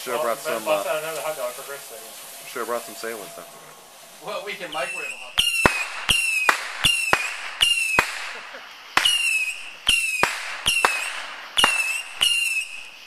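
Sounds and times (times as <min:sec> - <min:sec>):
whistling firework shots: 0:00.0 - 0:13.0.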